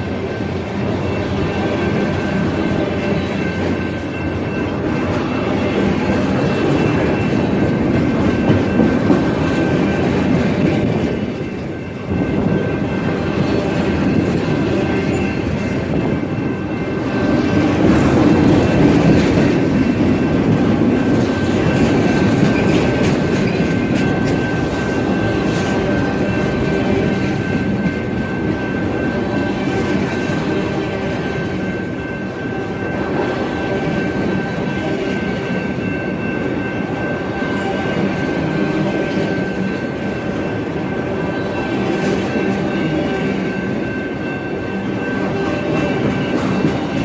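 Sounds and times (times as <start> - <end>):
train wheels rumbling and clacking: 0.0 - 47.0.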